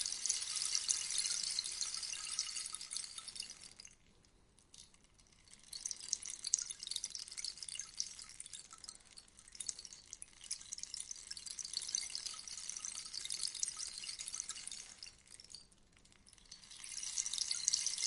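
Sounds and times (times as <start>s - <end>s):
rainstick trickling: 0.0s - 18.0s.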